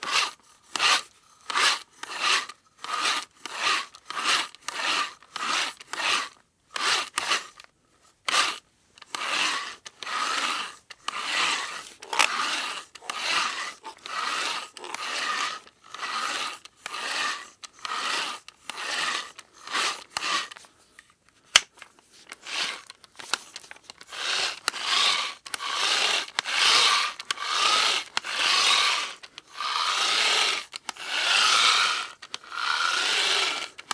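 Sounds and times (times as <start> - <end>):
hand drill grinding: 0.0 - 7.5, 8.4 - 20.6, 22.3 - 33.9.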